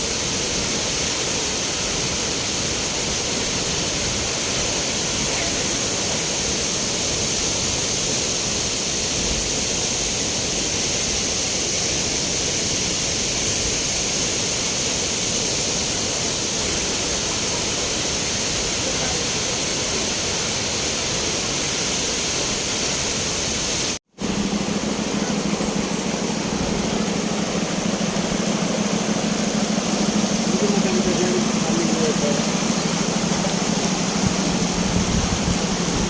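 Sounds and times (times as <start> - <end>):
water rushing: 0.0 - 36.0.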